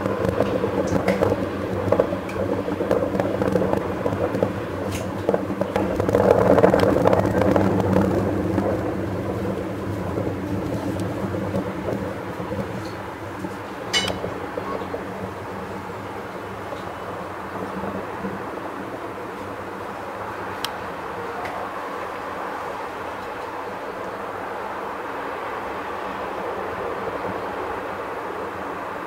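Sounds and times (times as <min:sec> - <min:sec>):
distant fireworks rumbling: 0:00.0 - 0:29.0
faint fireworks crackles: 0:00.0 - 0:29.0.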